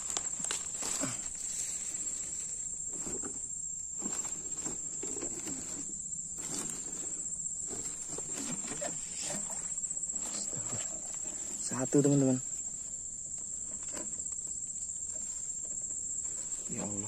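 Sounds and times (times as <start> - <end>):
crickets trilling: 0.0 - 17.0
rustling of fronds and grass: 0.0 - 17.0.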